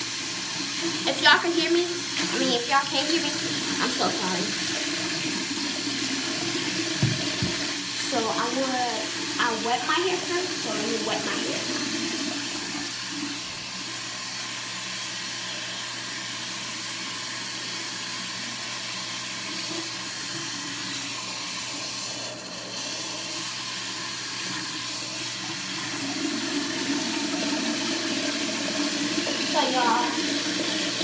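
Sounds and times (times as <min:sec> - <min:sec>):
water running from faucet: 0:00.0 - 0:31.0.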